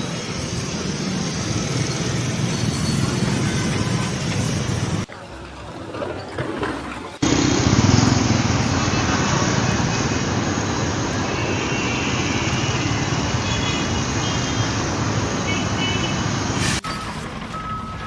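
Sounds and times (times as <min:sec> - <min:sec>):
loud vehicle noise: 0:00.0 - 0:05.1, 0:07.2 - 0:18.0.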